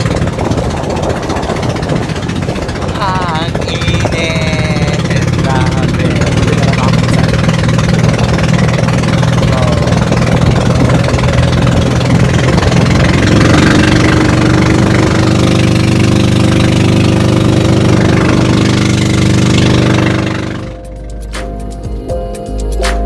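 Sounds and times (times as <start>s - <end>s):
boat engine running: 0.0s - 22.2s.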